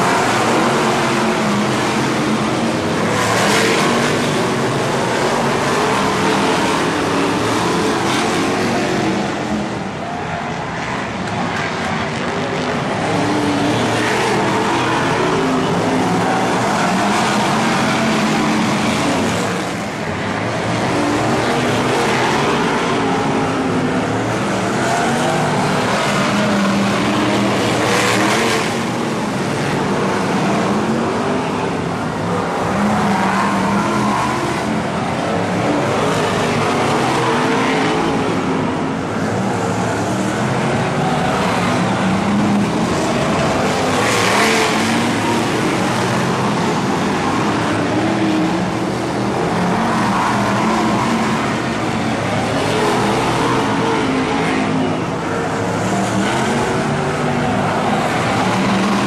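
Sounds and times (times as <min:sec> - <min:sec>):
race car engines racing: 0:00.0 - 0:59.0.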